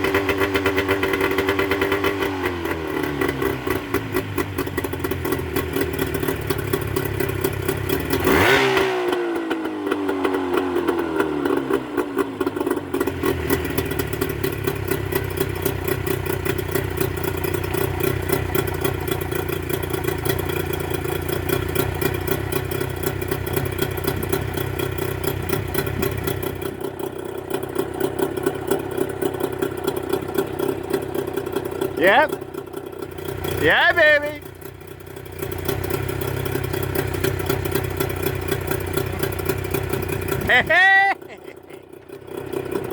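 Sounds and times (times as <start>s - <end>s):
outboard motor revving: 0.0s - 42.9s.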